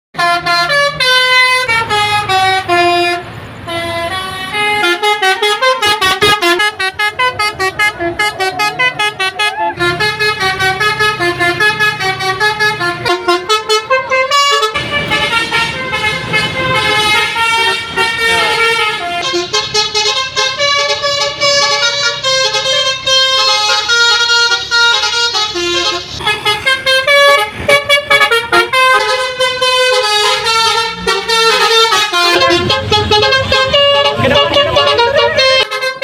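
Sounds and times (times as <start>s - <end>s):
bus engine running low: 0.2s - 36.0s
musical bus air horns: 0.2s - 36.0s.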